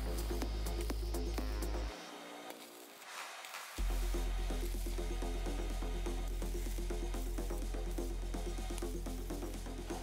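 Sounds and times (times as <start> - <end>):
electronic music with deep bass: 0.0 - 3.2, 3.8 - 10.0.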